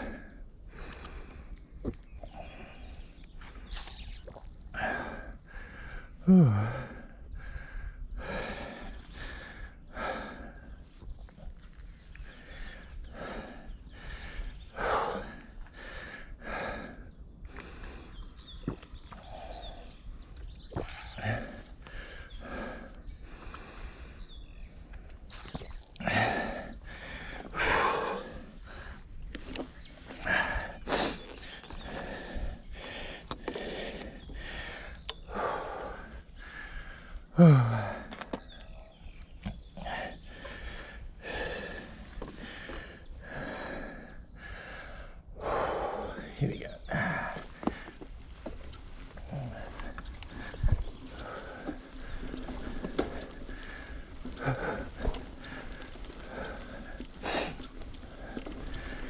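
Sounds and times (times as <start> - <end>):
person breathing hard: 0.0 - 1.6, 4.8 - 10.9, 12.1 - 18.3, 21.0 - 24.4, 26.0 - 38.4, 39.8 - 48.5, 49.2 - 59.0
low rumble of bike ride: 0.0 - 59.0.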